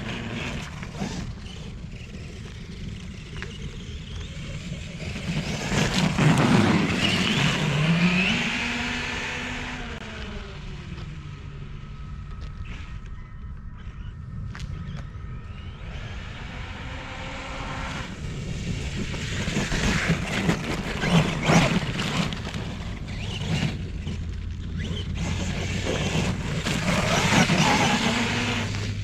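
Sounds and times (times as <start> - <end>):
rc car motor revving: 0.0 - 13.1, 14.8 - 29.0
tires churning through snow: 0.0 - 29.0.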